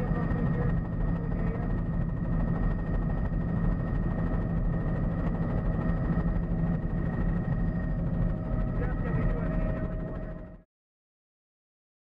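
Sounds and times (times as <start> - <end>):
helicopter engine and rotor drone: 0.0 - 10.7.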